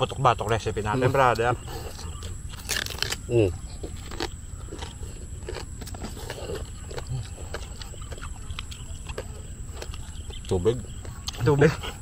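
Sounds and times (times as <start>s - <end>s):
wet chewing and mouth sounds: 0.0s - 12.0s
crunching crispy pork skin: 1.4s - 11.5s.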